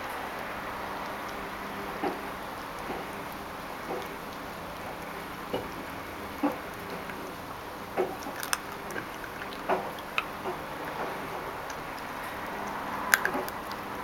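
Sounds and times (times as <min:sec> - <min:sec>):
puppy crunching on bone: 0:02.0 - 0:14.0.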